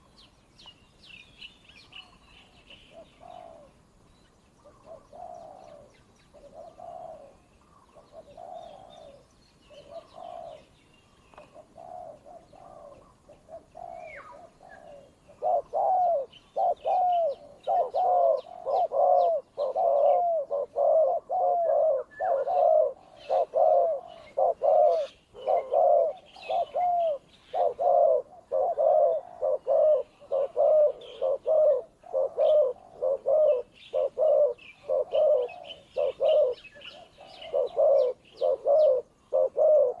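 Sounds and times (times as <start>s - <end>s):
doves cooing: 2.0s - 4.0s, 4.6s - 40.0s
loud fast dove cooing: 2.9s - 3.8s, 4.6s - 10.7s, 11.4s - 40.0s.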